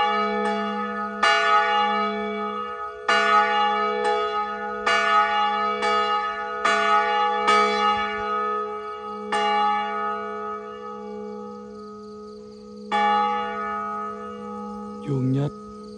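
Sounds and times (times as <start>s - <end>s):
church bell tolling: 0.0s - 15.9s.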